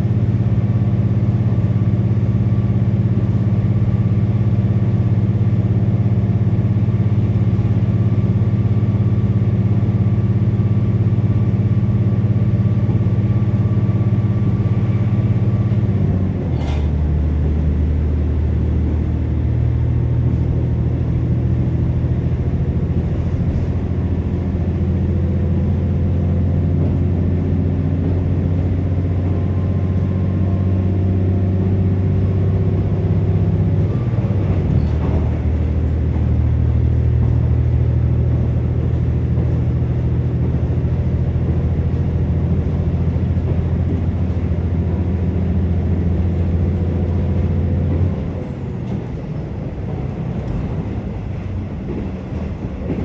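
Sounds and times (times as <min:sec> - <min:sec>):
diesel railcar engine drone: 0:00.0 - 0:53.0.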